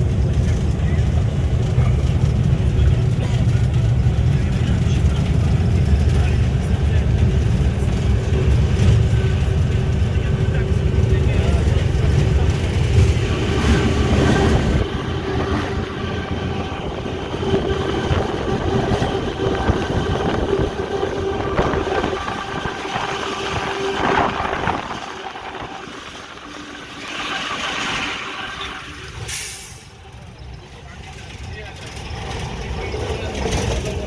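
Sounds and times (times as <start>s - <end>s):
locomotive engine hum: 0.0s - 34.0s
wheel and rail rumble: 0.0s - 34.0s.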